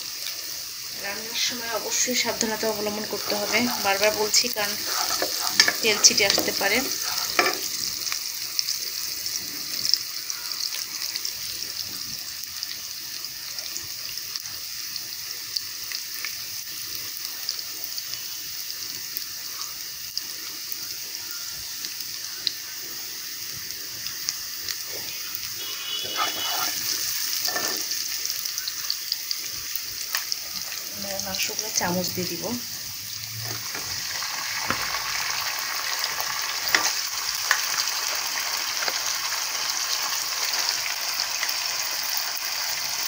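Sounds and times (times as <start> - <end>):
onions sizzling in hot oil: 0.0 - 43.0.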